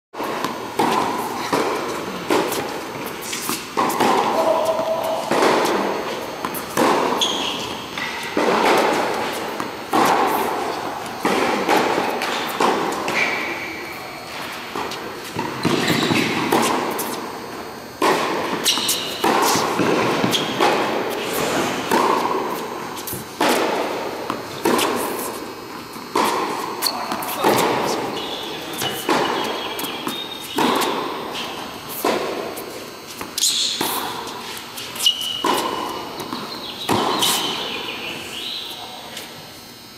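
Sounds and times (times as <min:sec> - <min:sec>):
tennis ball bouncing: 0:00.2 - 0:38.8
racket hitting tennis ball: 0:00.2 - 0:39.3.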